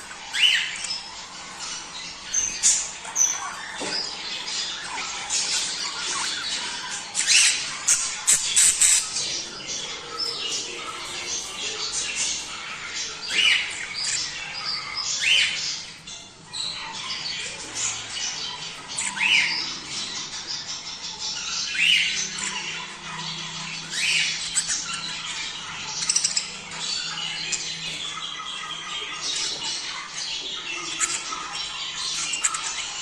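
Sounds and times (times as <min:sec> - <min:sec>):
budgerigars chattering and warbling: 0:00.0 - 0:33.0.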